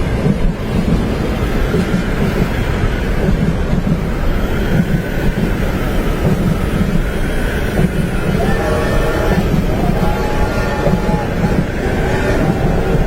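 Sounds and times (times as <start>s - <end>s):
train rumbling on tracks: 0.0s - 13.0s
wind noise: 0.0s - 13.0s.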